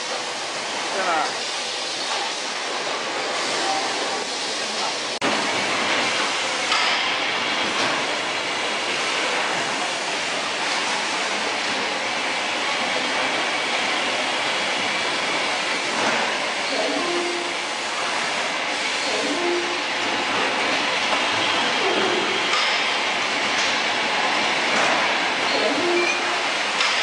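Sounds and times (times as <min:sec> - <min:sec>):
packaging line machinery din: 0:02.0 - 0:27.0.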